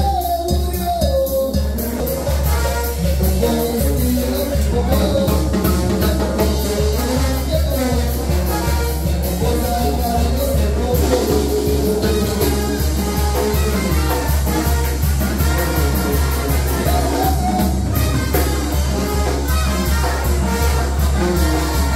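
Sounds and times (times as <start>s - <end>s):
brass band playing: 0.0s - 21.9s
percussion beat: 0.0s - 21.9s
tuba bass line: 0.0s - 21.9s.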